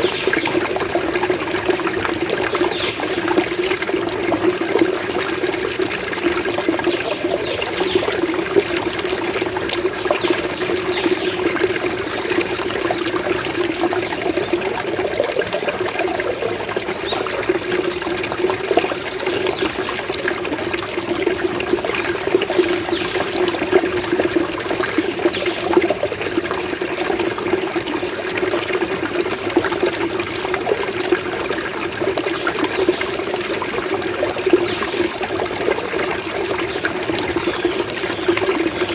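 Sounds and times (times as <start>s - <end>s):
running water gurgling: 0.0s - 38.9s.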